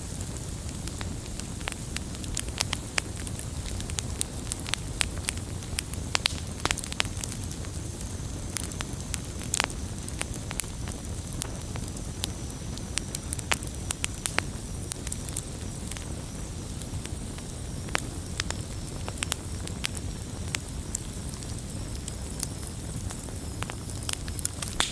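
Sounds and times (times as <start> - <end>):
fire crackling and popping: 0.0 - 24.9
rush of flame: 0.0 - 24.9.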